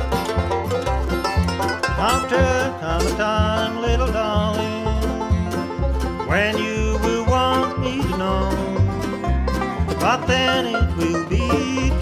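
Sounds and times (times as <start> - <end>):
acoustic guitar strumming: 0.0 - 12.0
bass notes: 0.0 - 12.0
picked string lead melody: 0.0 - 12.0.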